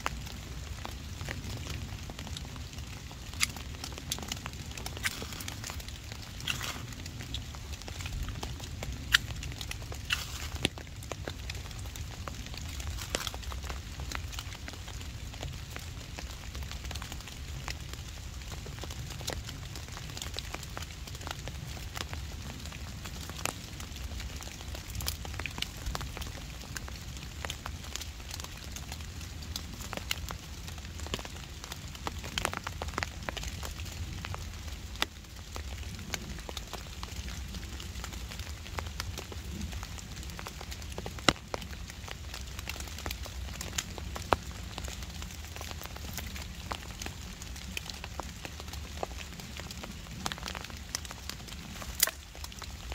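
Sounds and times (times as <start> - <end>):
fire crackling and snapping: 0.0 - 52.9
rain rumble: 0.0 - 52.9.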